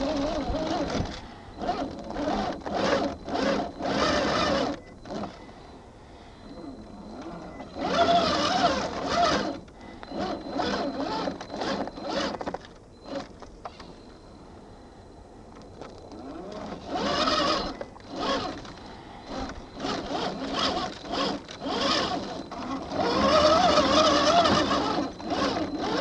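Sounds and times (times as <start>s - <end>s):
electric motor whining: 0.0s - 5.8s, 6.4s - 14.1s, 15.8s - 26.0s.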